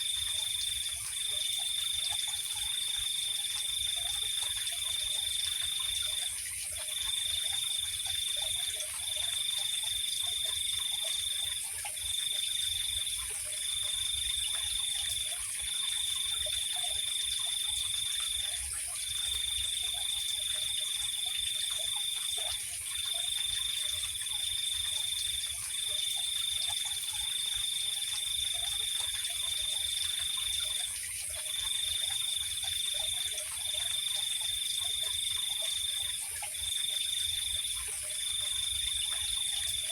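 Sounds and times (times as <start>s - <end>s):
cricket trilling: 0.0s - 39.9s
faint frog calls: 0.0s - 39.9s.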